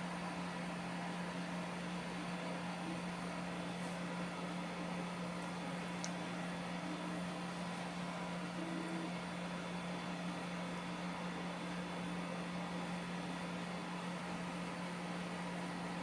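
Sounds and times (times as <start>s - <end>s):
fan hum: 0.0s - 16.0s.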